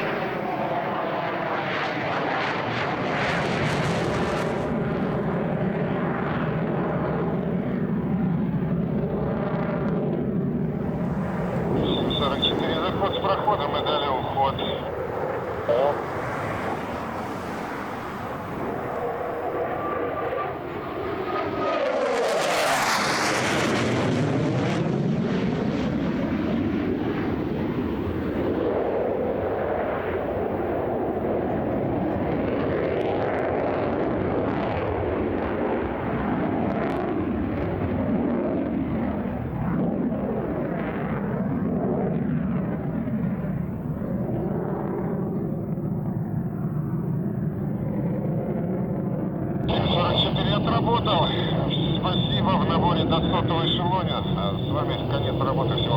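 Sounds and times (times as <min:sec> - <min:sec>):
fighter jet flying past: 0:00.0 - 0:55.9.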